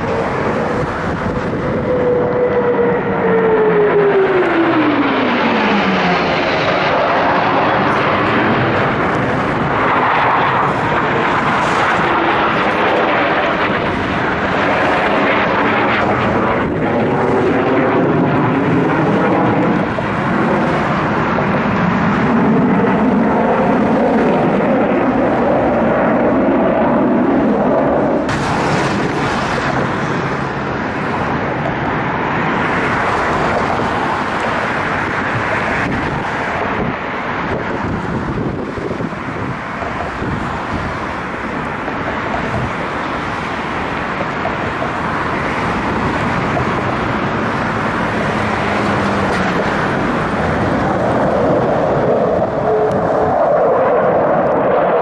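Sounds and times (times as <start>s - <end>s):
jet engines passing low: 0.0s - 55.0s.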